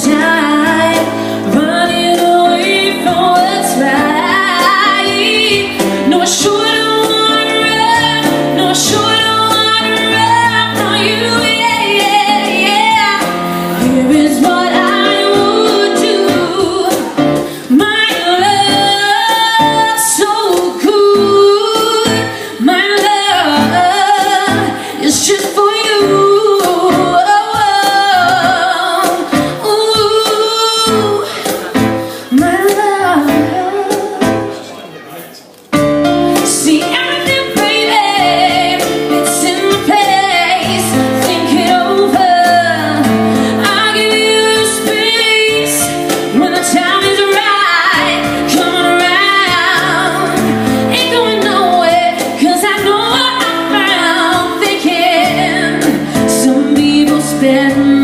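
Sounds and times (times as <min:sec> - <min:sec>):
woman singing: 0:00.0 - 0:34.6, 0:36.3 - 0:58.0
instrumental accompaniment: 0:00.0 - 0:58.0.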